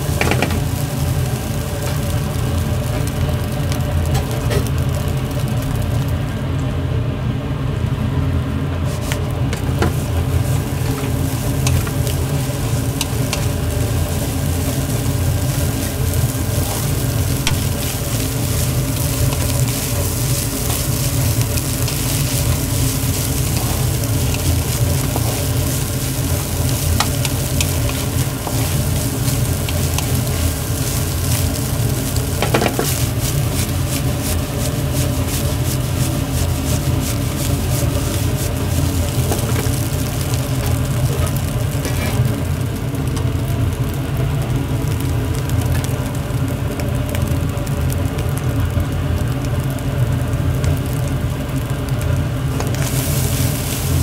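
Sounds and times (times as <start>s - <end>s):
low rumble: 0.0s - 46.3s
noodles sizzling in a pan: 0.0s - 54.0s.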